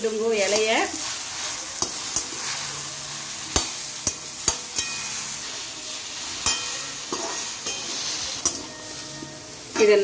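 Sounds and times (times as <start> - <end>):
leaves sizzling in oil: 0.0 - 10.0.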